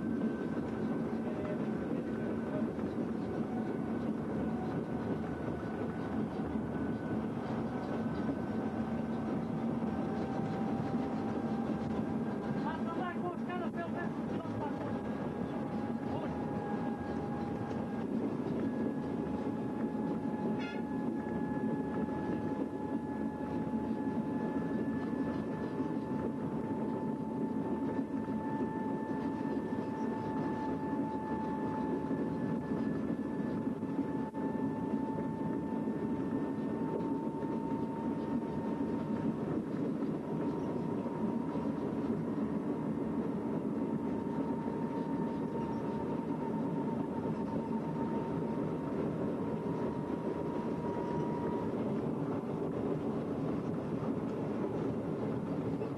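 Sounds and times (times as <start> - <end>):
rail trolley engine rumbling: 0.0 - 55.9.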